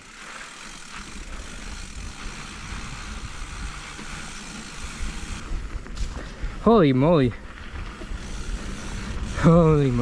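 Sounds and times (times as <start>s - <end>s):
bike tyres on dirt trail: 0.0s - 10.0s
low rumble from rough ground: 0.0s - 10.0s
wind buffeting microphone: 1.2s - 10.0s.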